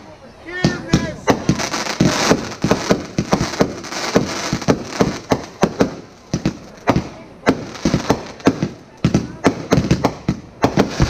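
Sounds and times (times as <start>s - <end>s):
fireworks crackling: 0.0s - 11.0s
fireworks bangs: 0.5s - 11.0s.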